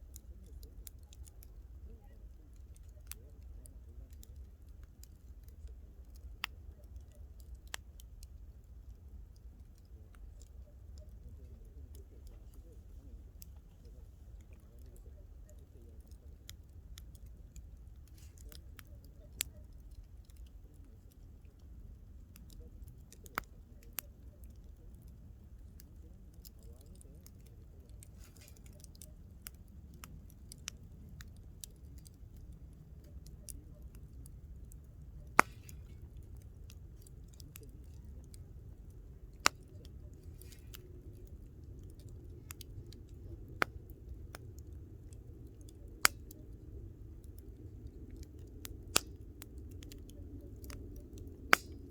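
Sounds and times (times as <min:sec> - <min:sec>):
campfire crackling and popping: 0:00.0 - 0:51.9
low steady rumble: 0:00.0 - 0:51.9.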